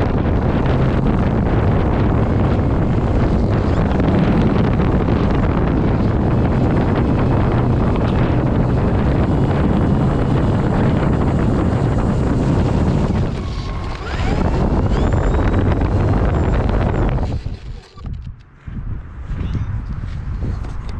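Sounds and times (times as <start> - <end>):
faint rising whine: 0.0 - 18.0
electric motor and propeller rush: 0.0 - 18.5
wind buffeting microphone: 0.0 - 20.9.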